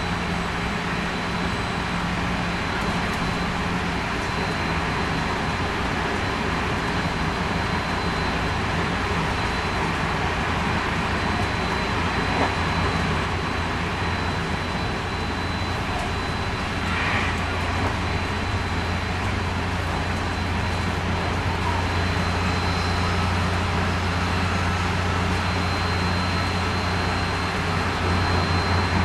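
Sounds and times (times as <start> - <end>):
faint steady high tone: 0.0 - 29.0
train wheel and rail noise: 0.0 - 29.0.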